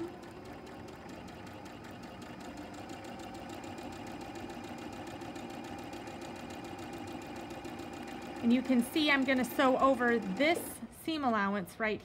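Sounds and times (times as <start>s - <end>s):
sewing machine stitching: 0.0s - 10.9s.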